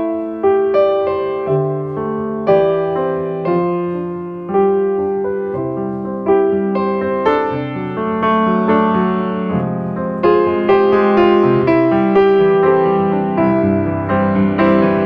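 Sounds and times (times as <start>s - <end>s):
slow gentle piano: 0.0s - 15.0s.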